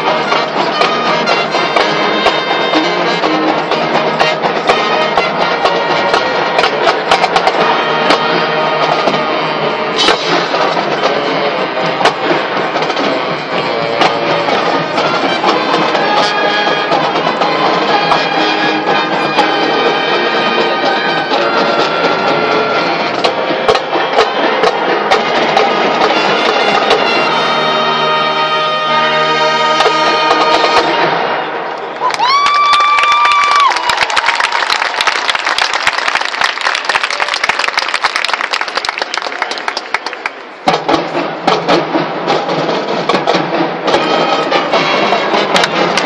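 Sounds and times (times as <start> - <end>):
drumline percussion hits: 0.0 - 46.0
marching band brass: 0.0 - 46.0.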